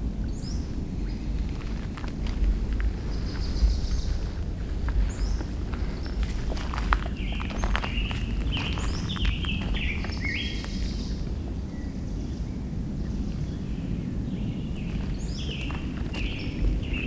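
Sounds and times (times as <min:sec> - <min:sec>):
birds chirping: 0:00.0 - 0:17.0
steady low rumble: 0:00.0 - 0:17.0.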